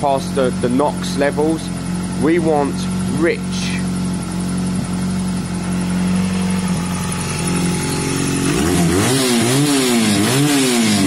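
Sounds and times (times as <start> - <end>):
moped engine idling and revving: 0.0 - 11.0.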